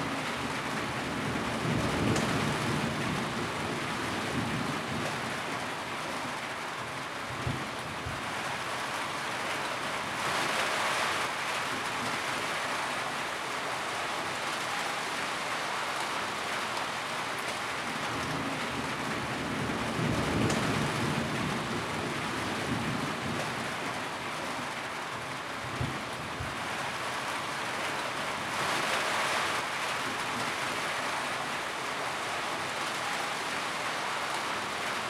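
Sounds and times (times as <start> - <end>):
rain on a tin roof: 0.0 - 35.0.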